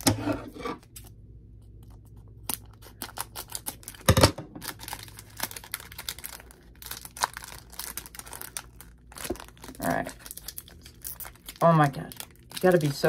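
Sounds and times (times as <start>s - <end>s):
scissors snipping foil pack: 2.4s - 13.0s
wrapper crinkling: 2.4s - 13.0s.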